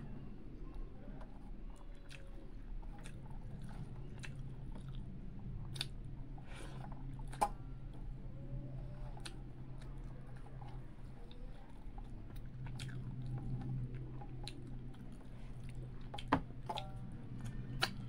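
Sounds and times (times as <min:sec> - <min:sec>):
steady low hum: 0:00.0 - 0:18.0
wet chewing: 0:00.0 - 0:18.0.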